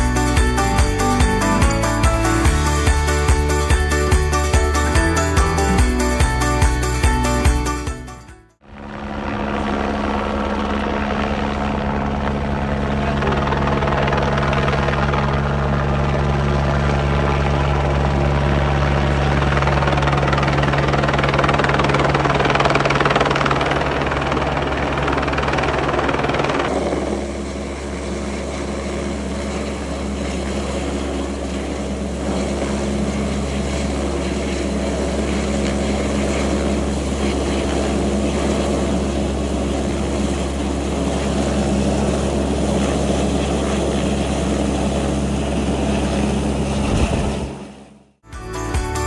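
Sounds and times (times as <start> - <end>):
helicopter hovering: 0.0 - 48.2.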